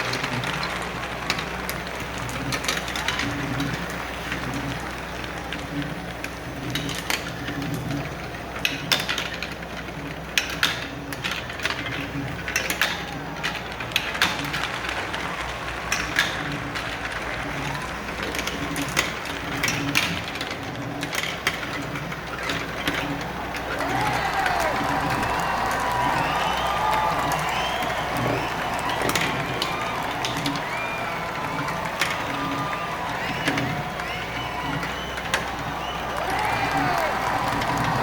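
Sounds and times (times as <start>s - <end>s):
crowd cheering and whistling: 0.0s - 8.1s, 11.8s - 38.0s
low background hum: 0.0s - 38.0s
marbles rolling and clicking: 0.0s - 38.0s.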